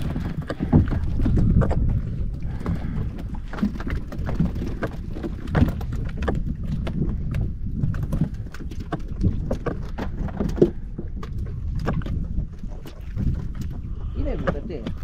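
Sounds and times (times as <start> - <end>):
knocks and taps on boat: 0.0 - 15.0
low rumble of wind and water: 0.0 - 15.0.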